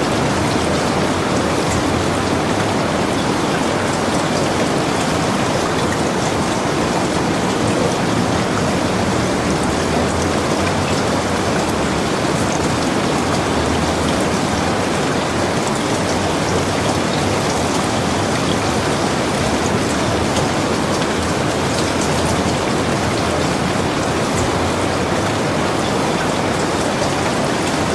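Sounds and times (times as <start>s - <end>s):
heavy rain on a roof: 0.0s - 27.9s.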